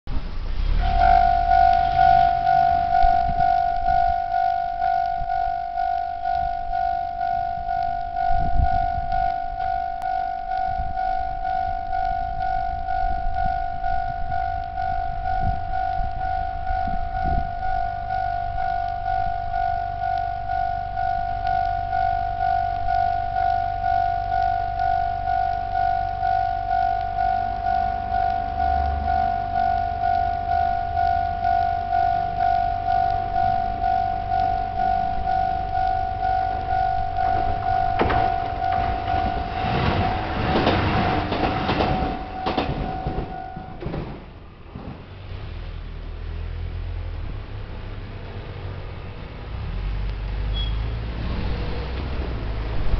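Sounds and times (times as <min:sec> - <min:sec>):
level crossing warning bell: 0:00.7 - 0:45.2.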